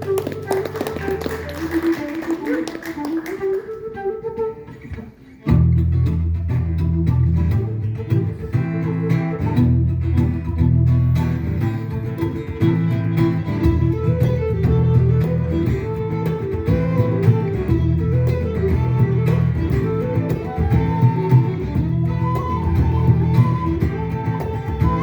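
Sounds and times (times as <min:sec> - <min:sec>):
instrumental acoustic string music: 0:00.0 - 0:25.0.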